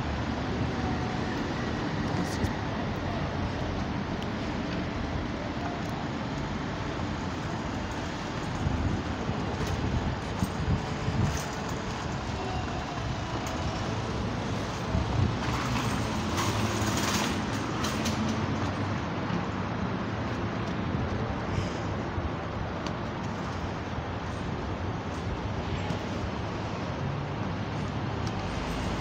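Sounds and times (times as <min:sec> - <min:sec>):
rumble of passing vehicles: 0:00.0 - 0:29.0
traffic hiss: 0:00.0 - 0:29.0.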